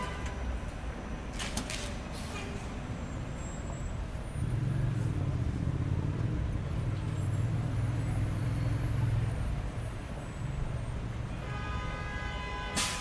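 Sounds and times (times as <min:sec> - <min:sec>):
heavy vehicle engine rumbling: 0:00.0 - 0:11.5
city street traffic: 0:00.0 - 0:13.0.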